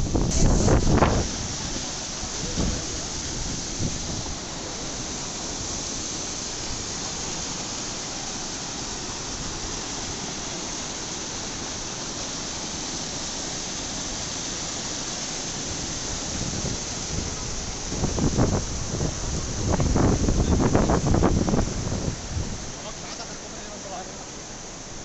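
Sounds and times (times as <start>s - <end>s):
water rushing over rapids: 0.0s - 25.0s.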